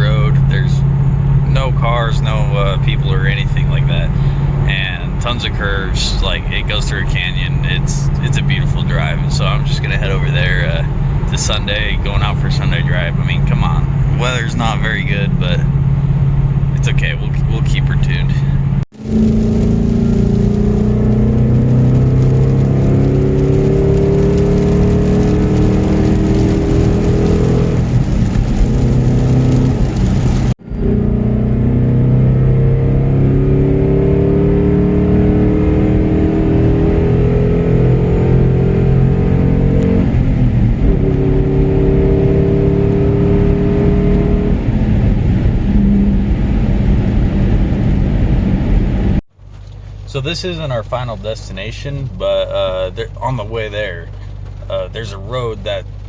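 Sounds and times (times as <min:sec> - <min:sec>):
race car engine accelerating: 0:00.0 - 0:49.2.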